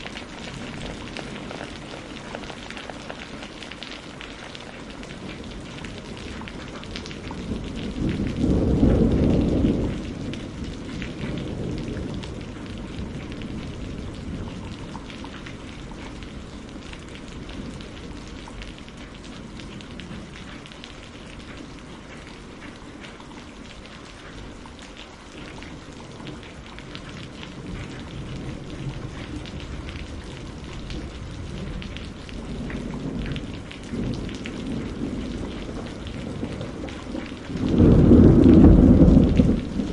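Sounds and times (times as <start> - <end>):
thunder rumbling: 0.0 - 3.5, 5.0 - 22.7, 25.4 - 39.9
steady rain patter: 0.0 - 39.9.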